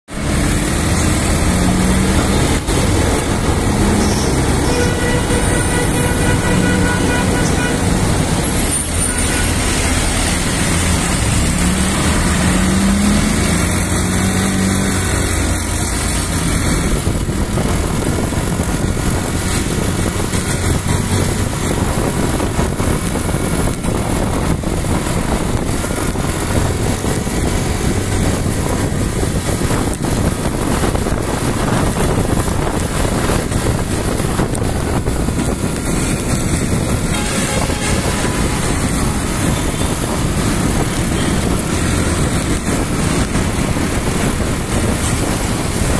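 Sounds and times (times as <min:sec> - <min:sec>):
road noise: 0:00.0 - 0:45.9
rushing air: 0:00.1 - 0:45.9.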